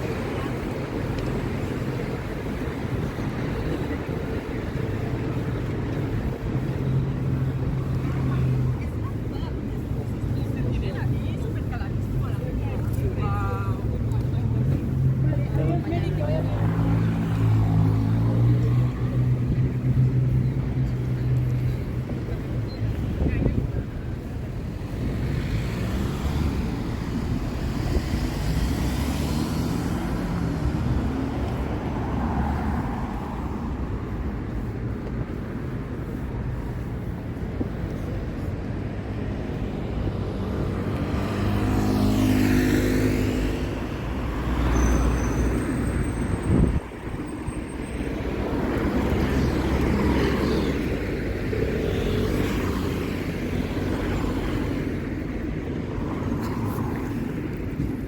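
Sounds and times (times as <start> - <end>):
cars passing on road: 0.0 - 58.0.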